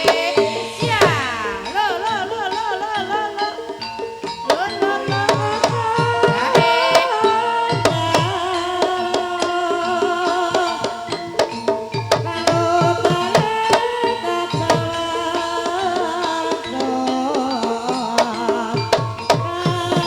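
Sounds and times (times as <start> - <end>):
gamelan music: 0.0 - 20.0
hand drum strokes: 0.0 - 20.0.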